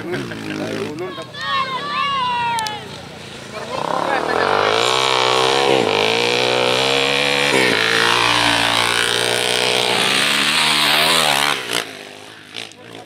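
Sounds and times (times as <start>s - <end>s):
motorcycle engine at full throttle: 0.0s - 1.0s, 3.0s - 13.0s.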